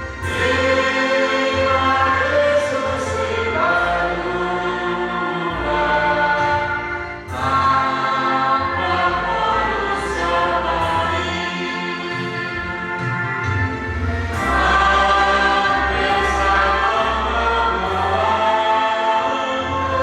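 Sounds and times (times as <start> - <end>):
group singing a hymn: 0.0 - 20.0
low bass accompaniment: 0.0 - 20.0.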